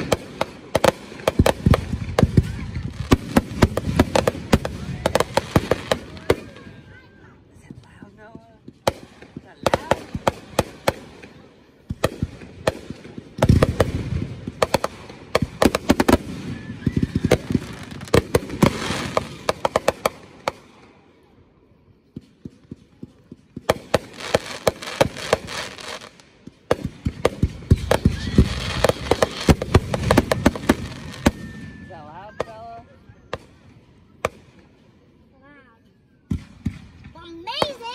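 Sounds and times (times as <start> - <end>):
fireworks crackling and popping: 0.0 - 35.6, 36.2 - 37.9.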